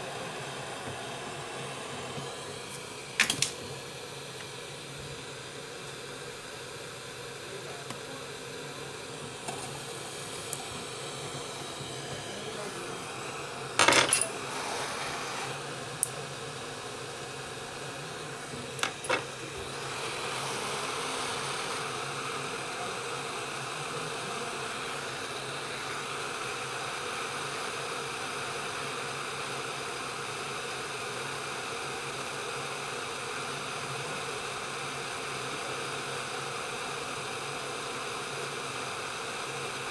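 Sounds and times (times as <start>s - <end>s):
hot air blower hissing: 0.0s - 39.9s.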